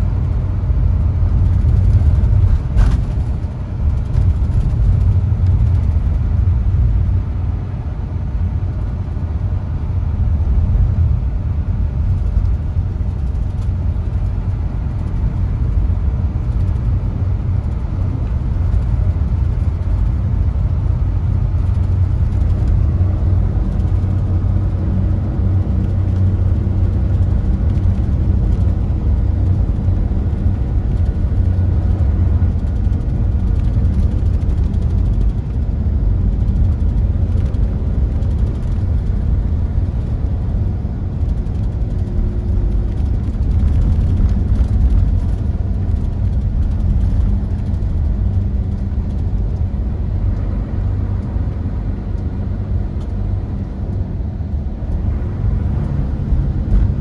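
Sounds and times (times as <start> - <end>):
coach engine and road drone: 0.0 - 57.0.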